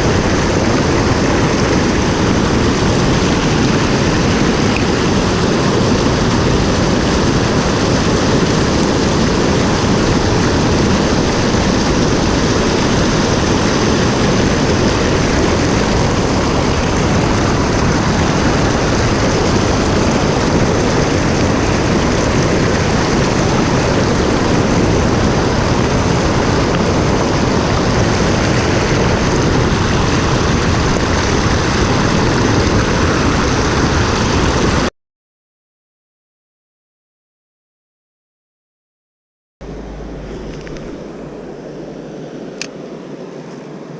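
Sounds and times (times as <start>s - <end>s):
mountain stream rushing: 0.0s - 34.9s, 39.6s - 43.9s.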